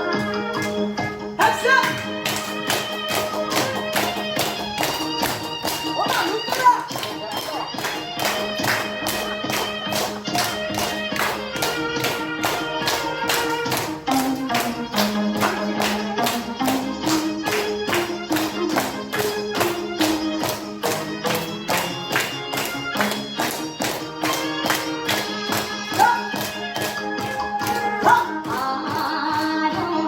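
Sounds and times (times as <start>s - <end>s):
upbeat dance music: 0.0s - 30.0s.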